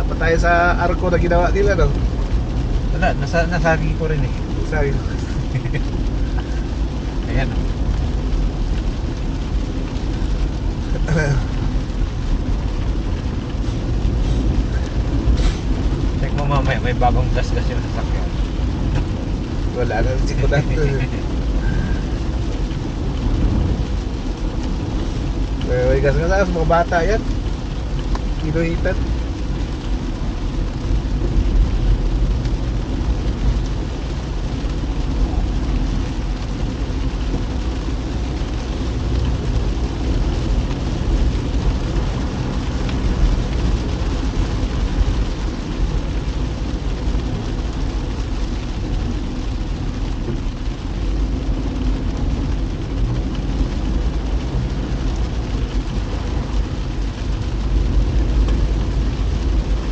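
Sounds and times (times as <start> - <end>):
car engine rumble: 0.0 - 59.9
rain: 0.0 - 59.9
tyres hissing on wet road: 0.0 - 59.9.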